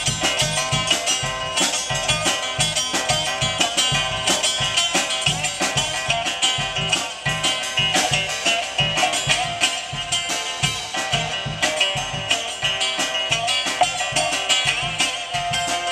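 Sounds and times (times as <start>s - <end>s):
picked guitar: 0.0s - 15.9s
steady drum beat: 0.0s - 15.9s.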